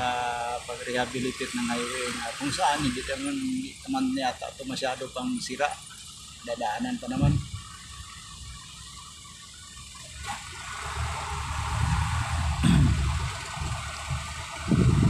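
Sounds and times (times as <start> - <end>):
low traffic rumble: 0.0 - 15.0
vehicle engine noise from inside: 0.0 - 15.0.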